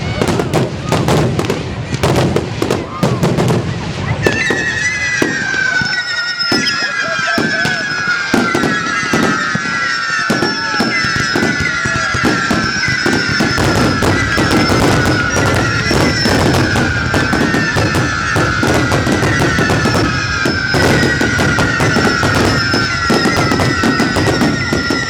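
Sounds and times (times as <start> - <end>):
fireworks bangs and crackles: 0.0 - 25.0
fireworks whistling: 0.0 - 25.0.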